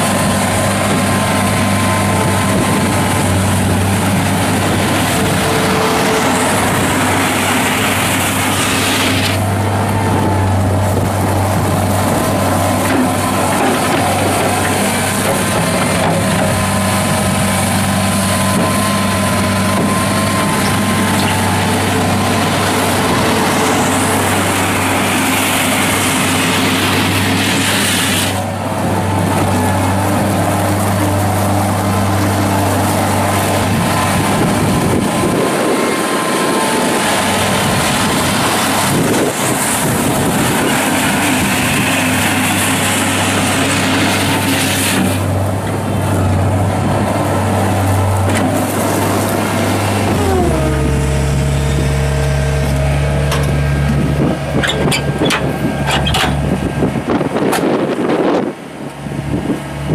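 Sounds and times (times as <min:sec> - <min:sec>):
skid steer diesel engine running: 0:00.0 - 0:59.9.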